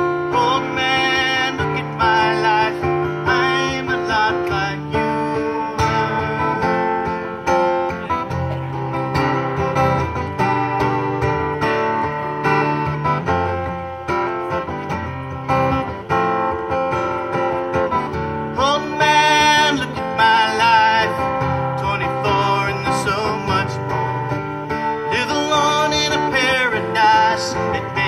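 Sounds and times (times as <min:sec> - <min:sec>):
acoustic guitar strummed: 0:00.0 - 0:28.0.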